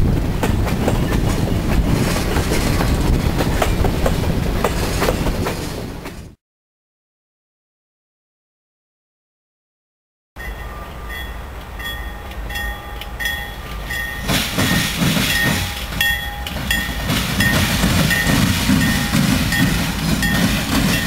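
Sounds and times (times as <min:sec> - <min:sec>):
diesel locomotive engine rumble: 0:00.0 - 0:06.4, 0:10.4 - 0:21.0
train wheel noise: 0:00.0 - 0:06.4, 0:10.4 - 0:21.0.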